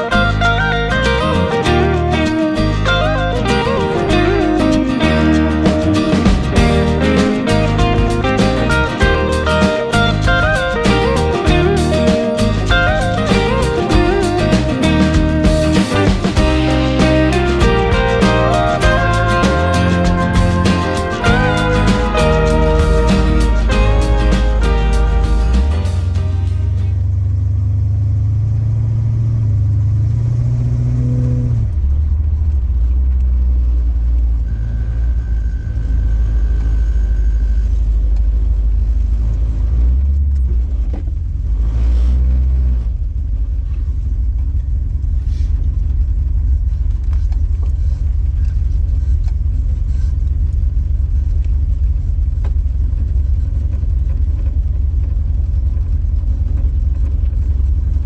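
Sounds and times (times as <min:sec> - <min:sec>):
deep exhaust rumble: 0:00.0 - 0:58.0.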